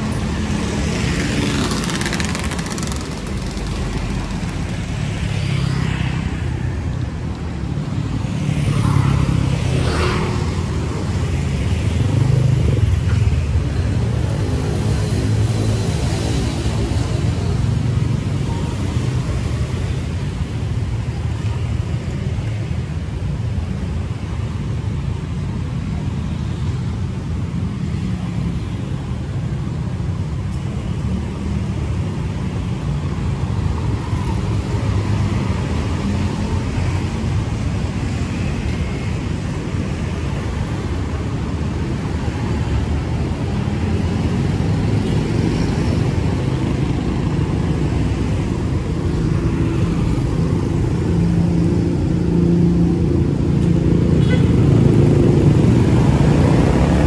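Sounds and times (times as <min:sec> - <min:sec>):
street traffic passing: 0:00.0 - 0:57.0.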